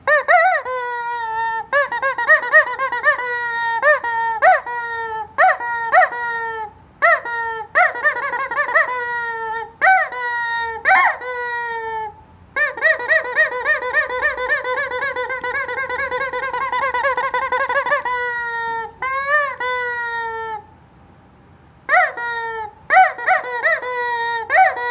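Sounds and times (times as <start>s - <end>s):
rubber chicken toy squawking: 0.0s - 20.7s, 21.9s - 24.9s.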